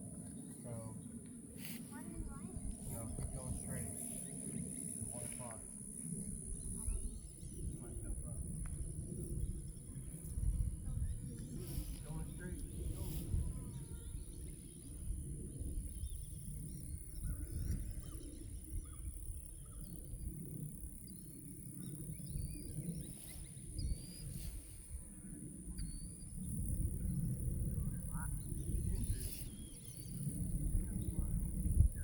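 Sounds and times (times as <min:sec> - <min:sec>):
small birds chirping: 0:00.0 - 0:32.0
wind rumble on microphone: 0:00.0 - 0:32.0.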